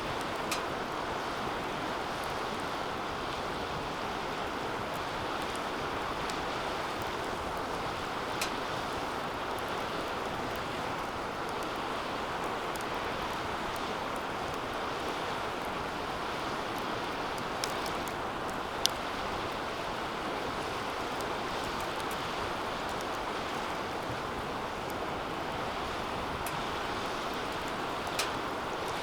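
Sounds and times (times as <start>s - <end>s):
fire crackles: 0.0s - 29.0s
fire hissing: 0.0s - 29.0s
wood snapping in fire: 0.1s - 3.0s, 4.0s - 29.0s.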